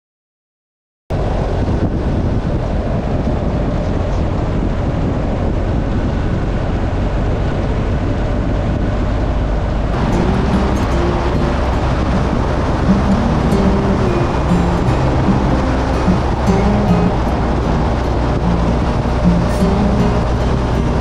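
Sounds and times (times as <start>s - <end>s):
motorcycle engine drone: 1.1s - 21.0s
wind noise on microphone: 1.1s - 21.0s.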